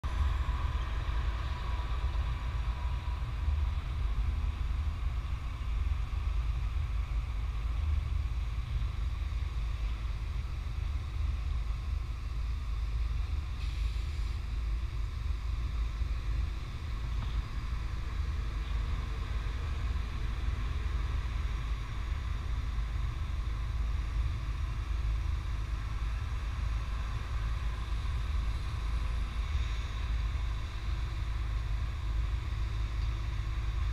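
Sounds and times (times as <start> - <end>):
machinery and engines rumbling: 0.0 - 33.9
faint high hum: 0.1 - 33.9.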